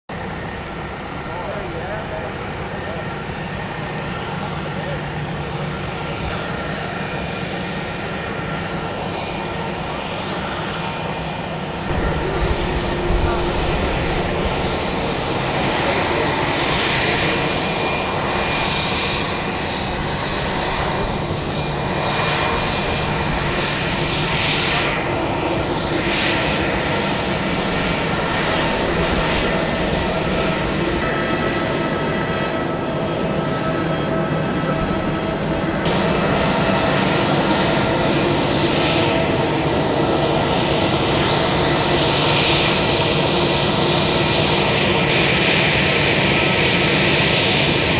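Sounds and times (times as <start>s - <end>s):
jet engines taxiing: 0.1s - 47.9s.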